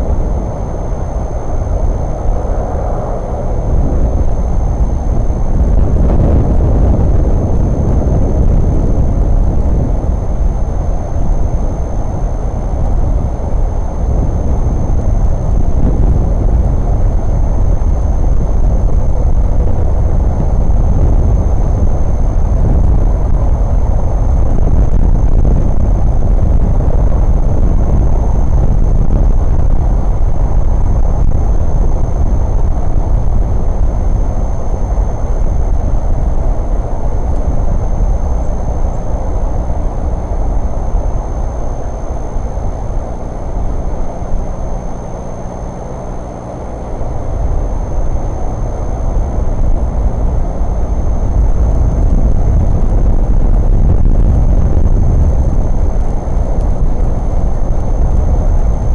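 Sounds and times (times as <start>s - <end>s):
faint high-pitched whine: 0.0s - 58.9s
low rumbling noise: 0.0s - 58.9s.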